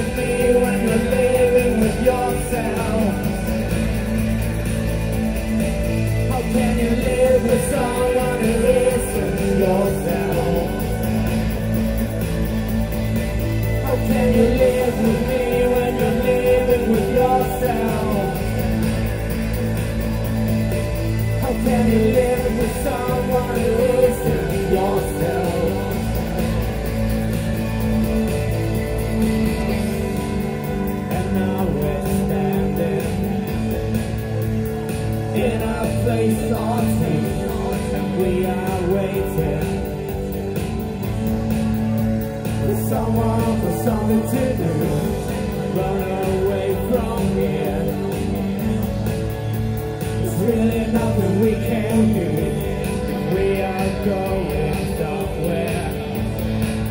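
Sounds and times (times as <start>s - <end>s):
man singing lead vocal: 0.0s - 56.9s
rock band playing: 0.0s - 56.9s.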